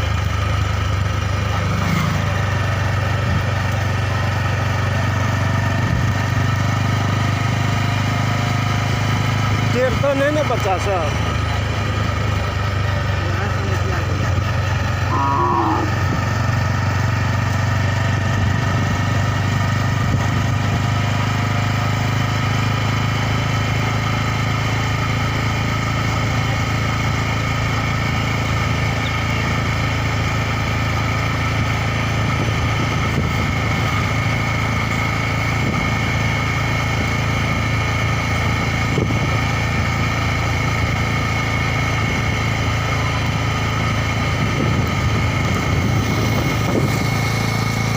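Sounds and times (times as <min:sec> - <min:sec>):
motorcycle engine running steadily: 0:00.0 - 0:47.9.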